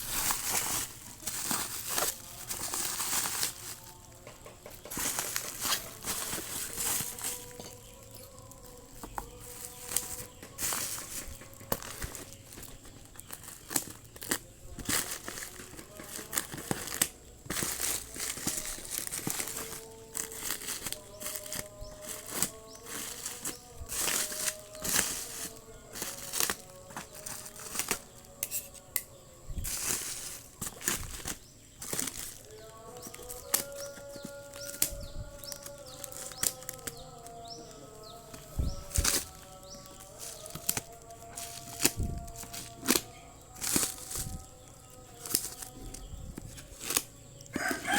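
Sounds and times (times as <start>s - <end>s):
faint background music: 0.0s - 47.9s
plastic packaging crinkling and tearing: 0.0s - 47.9s.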